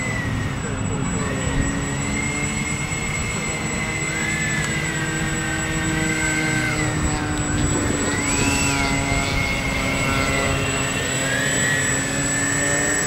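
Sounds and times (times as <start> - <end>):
electric ducted fans whining: 0.0 - 13.0
lower whine: 0.0 - 13.0.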